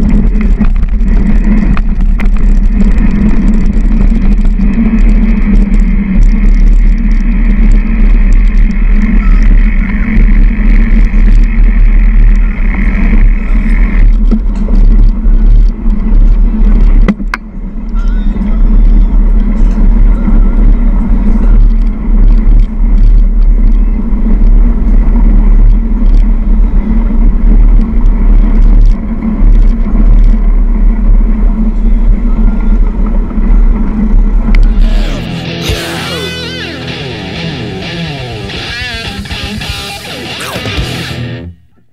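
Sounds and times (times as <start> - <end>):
bike rumble on camera microphone: 0.0 - 41.9.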